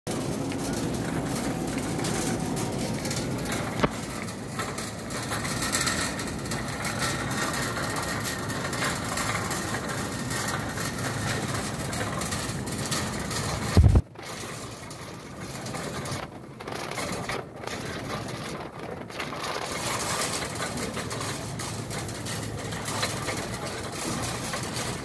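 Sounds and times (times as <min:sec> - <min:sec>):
shopping cart rolling and rattling: 0:00.1 - 0:25.0.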